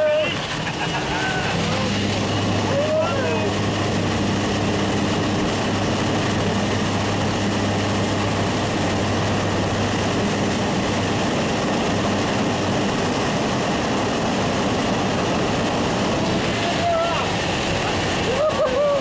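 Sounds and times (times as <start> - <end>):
propeller engine running loud: 0.0 - 19.0
rush of air: 0.3 - 19.0.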